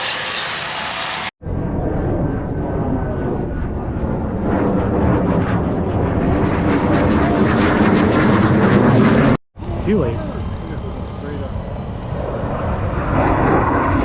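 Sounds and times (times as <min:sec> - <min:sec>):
airplane engine running: 0:00.0 - 0:14.0.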